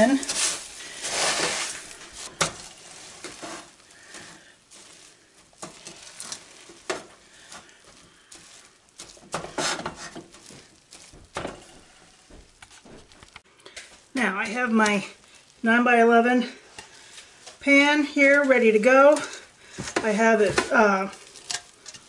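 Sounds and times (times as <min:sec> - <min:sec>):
spoon stirring sticky cereal: 0:00.0 - 0:12.8, 0:16.4 - 0:22.0.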